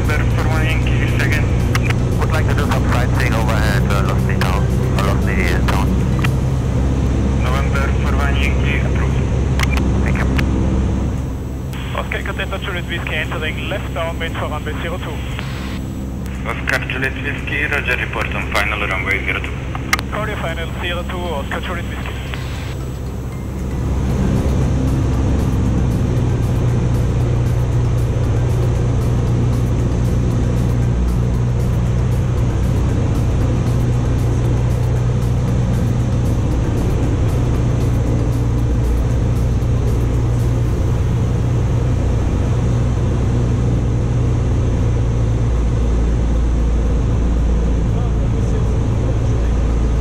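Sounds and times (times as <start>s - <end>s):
background music with steady beat: 0.0s - 50.0s
propeller plane engine drone: 0.0s - 50.0s.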